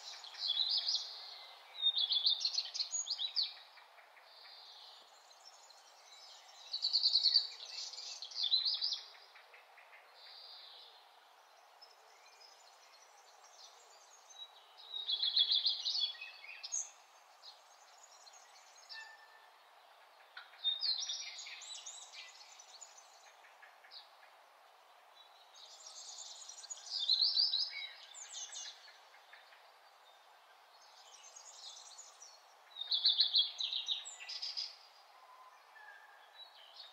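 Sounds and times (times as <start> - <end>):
birds chirping and trilling: 0.0 - 36.9
faint background hiss: 0.0 - 36.9.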